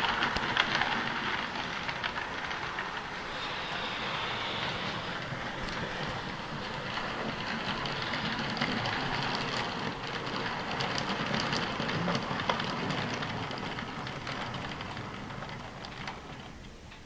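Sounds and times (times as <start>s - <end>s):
model train wheels rattling: 0.0s - 17.0s.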